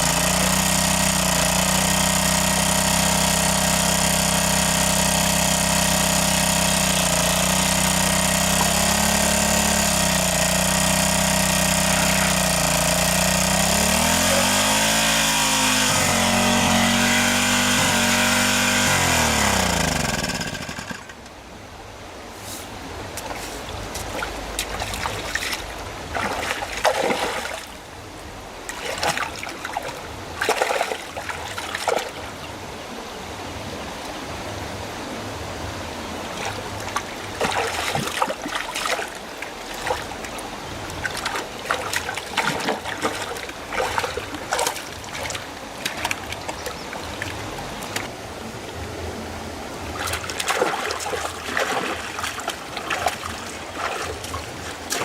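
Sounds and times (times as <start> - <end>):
water splashing: 0.0 - 21.2, 22.3 - 27.9, 28.5 - 32.4, 36.1 - 55.0.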